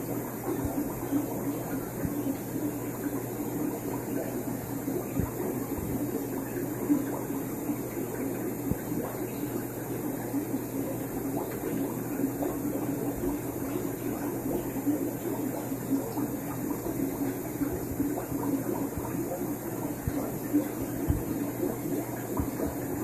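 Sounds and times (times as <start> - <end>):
low electrical hum: 0.0 - 23.0
water bubbling and fizzing: 0.0 - 23.0.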